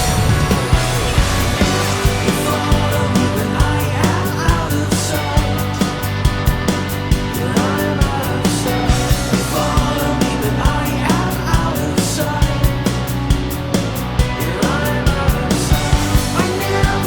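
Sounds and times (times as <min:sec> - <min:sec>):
drum beat: 0:00.0 - 0:17.0
progressive rock music: 0:00.0 - 0:17.0.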